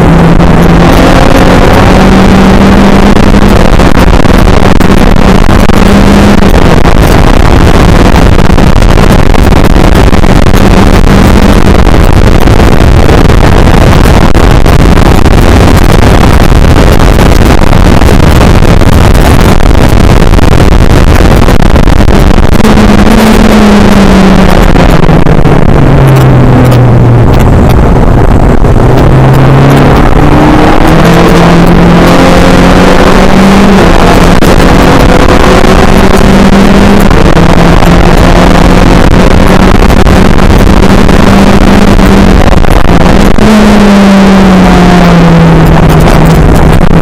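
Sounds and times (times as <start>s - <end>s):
race car engine high revs: 0.0s - 47.0s.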